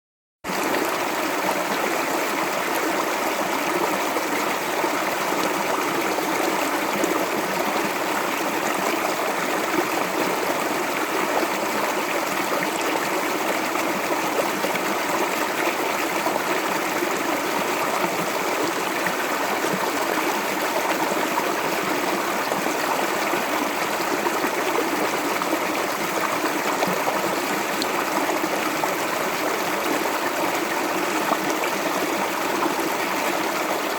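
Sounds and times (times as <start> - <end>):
shallow stream flowing: 0.5 - 33.9.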